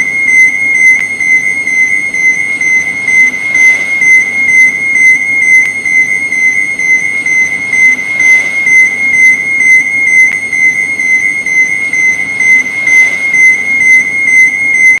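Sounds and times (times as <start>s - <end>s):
pulsing high-pitched alarm beep: 0.0s - 15.0s.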